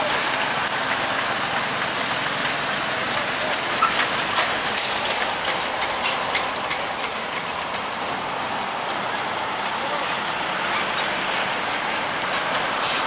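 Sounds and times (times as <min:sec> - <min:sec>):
diesel truck engine running: 0:00.0 - 0:13.0
road noise: 0:00.0 - 0:13.0.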